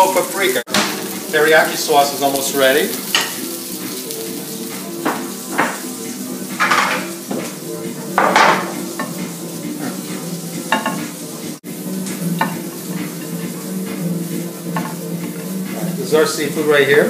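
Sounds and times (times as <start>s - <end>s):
food sizzling in frying pans: 0.0s - 17.0s.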